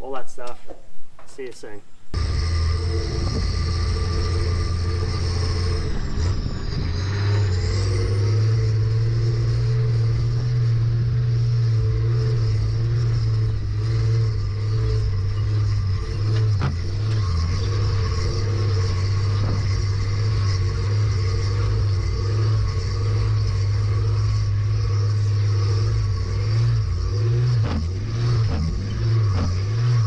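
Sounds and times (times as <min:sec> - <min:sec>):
car engine droning: 0:02.1 - 0:30.0
tyre and road noise: 0:02.1 - 0:30.0.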